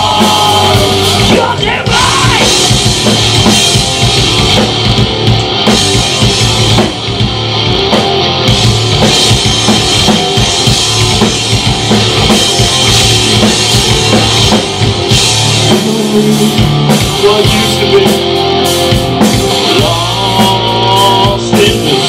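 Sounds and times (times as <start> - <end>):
drum kit beat: 0.0 - 22.0
electric guitars: 0.0 - 22.0
rock band playing: 0.0 - 22.0.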